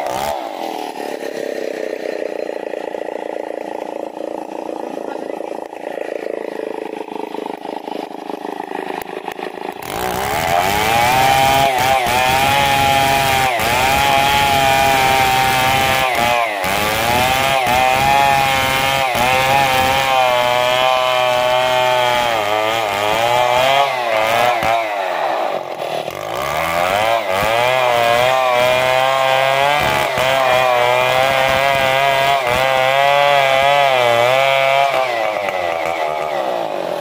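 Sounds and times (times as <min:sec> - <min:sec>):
chainsaw cutting log: 0:00.0 - 0:37.0.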